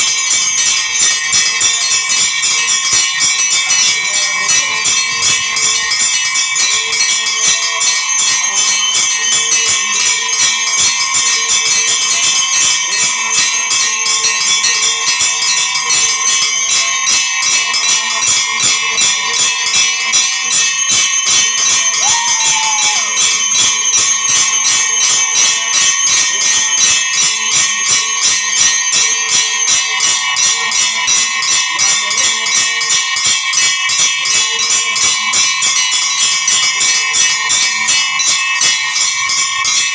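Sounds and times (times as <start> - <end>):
temple bells ringing: 0.0 - 39.9.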